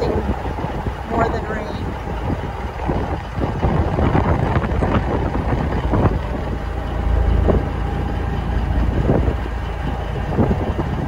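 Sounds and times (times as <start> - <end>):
gusty wind buffeting microphone: 0.0 - 11.0.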